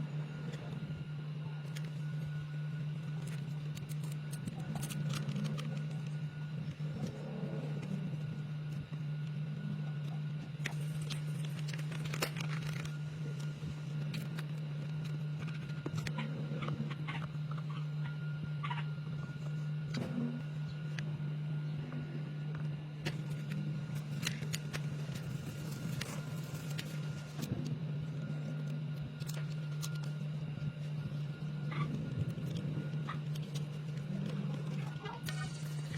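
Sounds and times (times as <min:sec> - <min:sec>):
low motor hum: 0:00.0 - 0:35.9.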